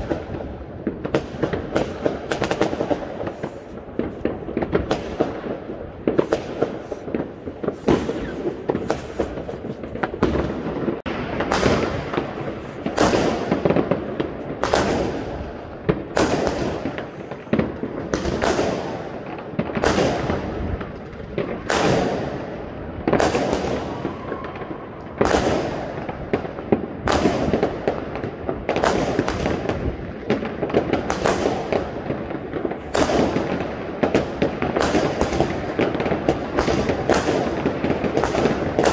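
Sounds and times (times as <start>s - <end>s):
fireworks exploding: 0.0s - 38.9s
rumble and crackle: 0.0s - 38.9s.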